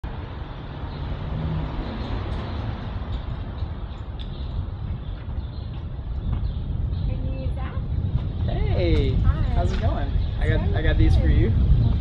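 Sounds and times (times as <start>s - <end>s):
rumble of street traffic: 0.0s - 12.0s.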